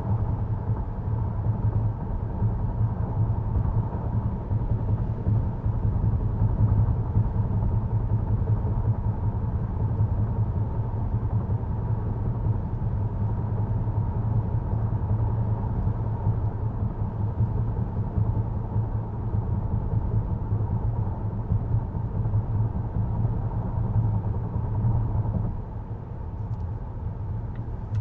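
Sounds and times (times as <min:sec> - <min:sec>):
car drivetrain hum: 0:00.1 - 0:28.0.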